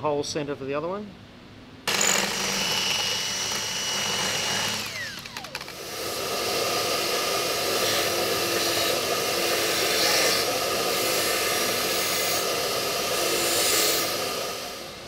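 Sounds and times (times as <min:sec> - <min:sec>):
bench grinder grinding metal: 0:01.9 - 0:15.0.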